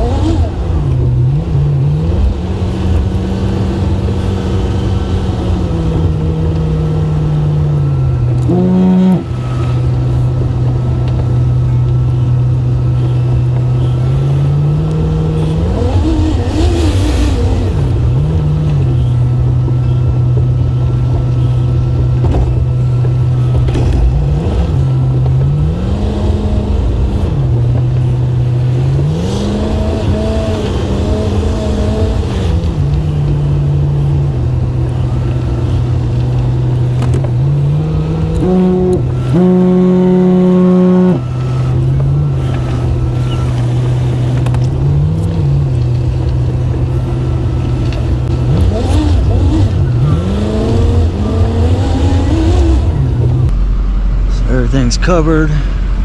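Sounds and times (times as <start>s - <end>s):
pickup truck engine revving: 0.0s - 56.0s.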